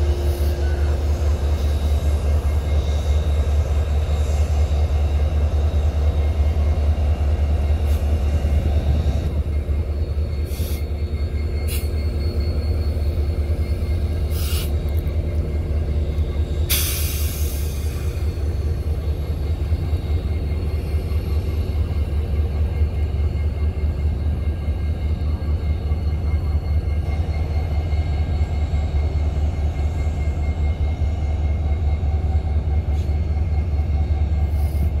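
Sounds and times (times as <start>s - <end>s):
diesel locomotives rumbling: 0.0s - 35.0s.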